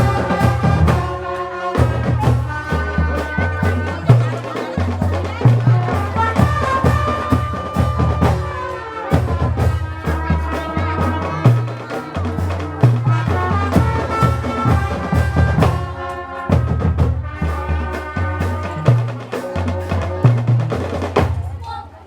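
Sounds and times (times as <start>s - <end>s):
bass drums and percussion: 0.0s - 22.0s
wind instrument melody: 0.0s - 22.0s.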